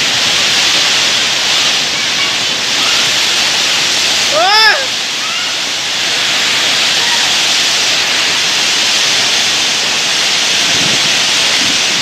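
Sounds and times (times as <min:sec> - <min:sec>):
strong gusting wind: 0:00.0 - 0:12.0
torrential rain: 0:00.0 - 0:12.0.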